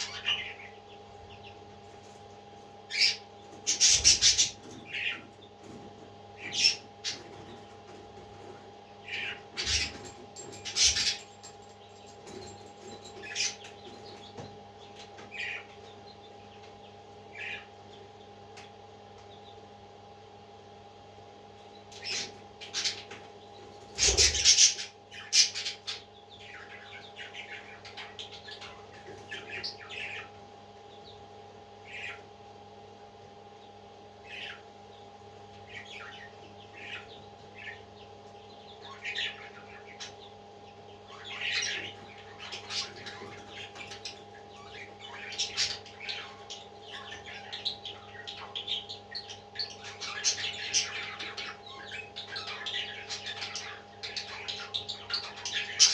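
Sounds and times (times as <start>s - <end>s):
steady low hum: 0.0s - 55.8s
parrot chicks chirping and squawking: 0.0s - 55.9s.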